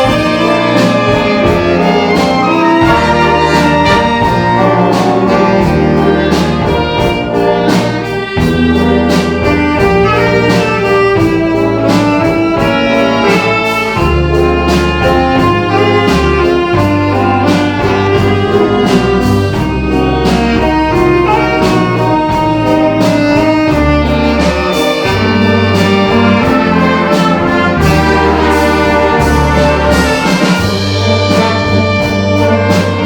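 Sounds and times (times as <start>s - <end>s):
saxophone solo: 0.0s - 33.0s
sustained bass notes: 0.0s - 33.0s
wind band playing bossa nova: 0.0s - 33.0s.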